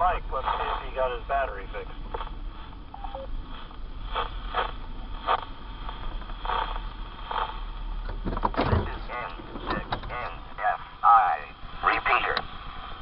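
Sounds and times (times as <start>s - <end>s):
radio crackles: 0.0s - 13.0s
radio hiss: 0.0s - 13.0s
steady low hum: 0.0s - 13.0s.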